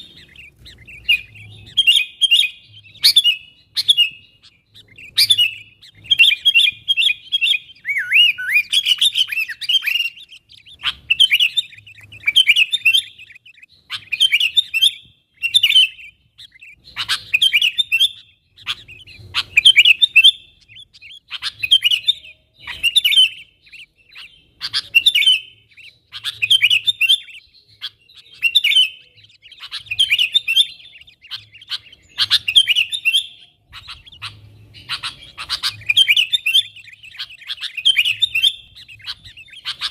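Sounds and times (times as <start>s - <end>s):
bulbul chattering call: 0.0s - 39.9s.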